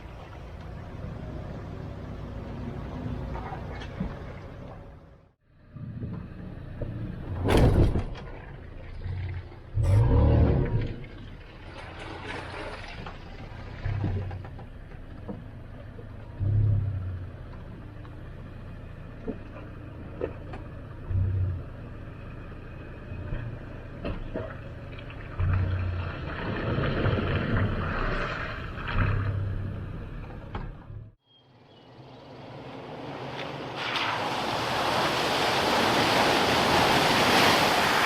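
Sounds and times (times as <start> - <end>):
off-road vehicle rumbling: 0.0 - 38.0.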